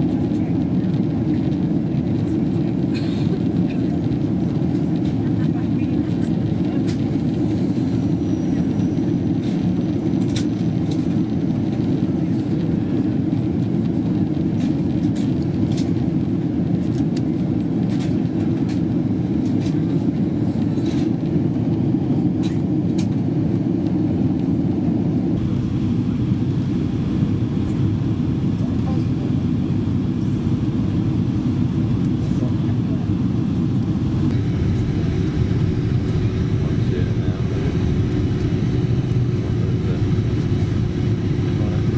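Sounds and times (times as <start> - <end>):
airplane cabin roar: 0.0 - 41.9.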